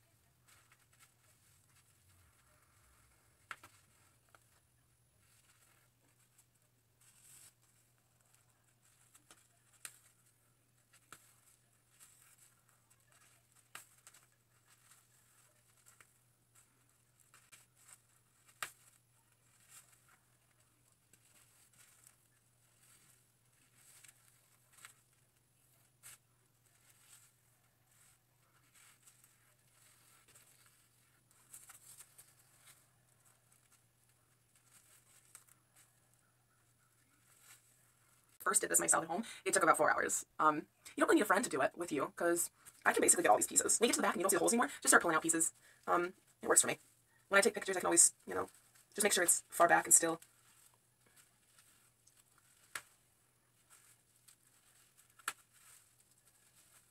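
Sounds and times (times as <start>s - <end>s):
faint rustles: 0.0s - 39.4s, 44.6s - 56.9s.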